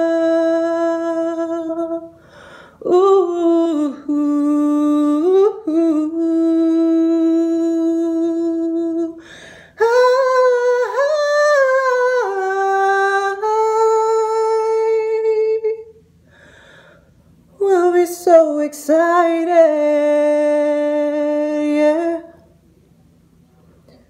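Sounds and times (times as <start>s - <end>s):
girl singing wordless notes: 0.0s - 2.2s, 2.8s - 16.0s, 17.6s - 22.4s.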